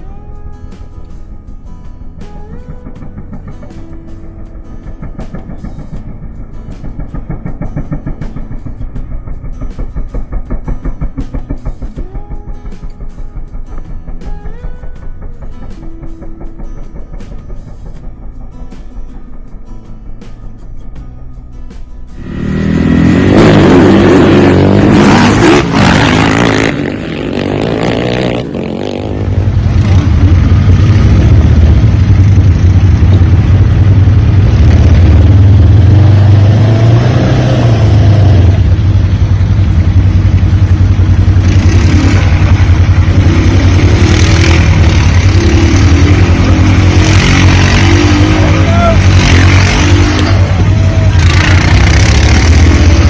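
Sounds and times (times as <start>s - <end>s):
off-road vehicle engine: 0.0s - 53.0s.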